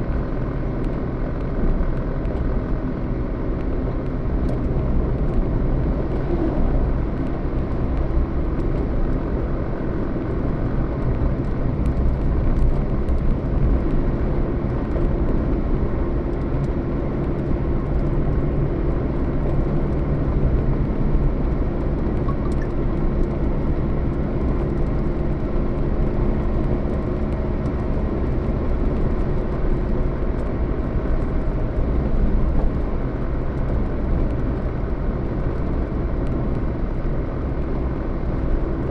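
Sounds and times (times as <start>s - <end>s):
road and tyre noise: 0.0s - 38.9s
vehicle engine hum: 0.0s - 38.9s.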